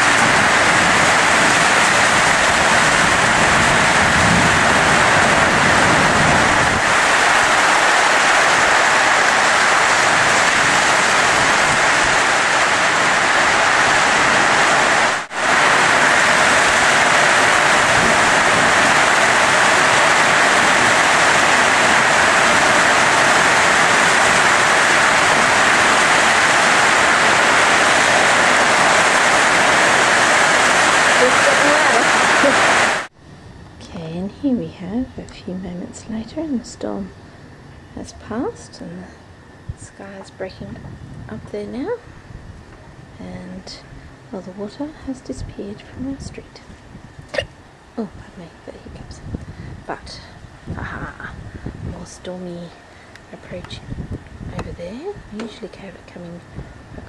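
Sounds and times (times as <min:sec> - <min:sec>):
heavy rain pouring: 0:00.0 - 0:33.2, 0:39.9 - 0:57.0.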